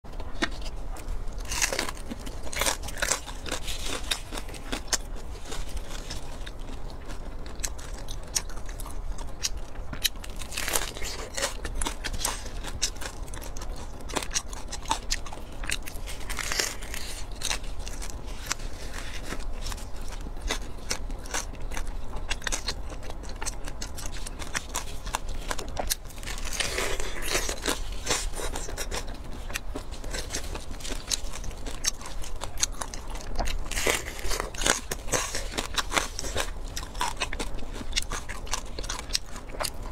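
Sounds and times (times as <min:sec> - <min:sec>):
crunching and chewing: 0:00.1 - 0:39.9.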